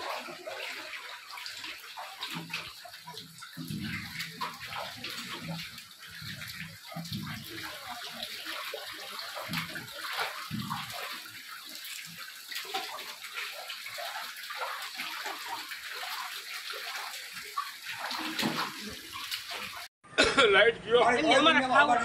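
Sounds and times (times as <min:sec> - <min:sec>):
floodwater sloshing: 0:00.0 - 0:19.9.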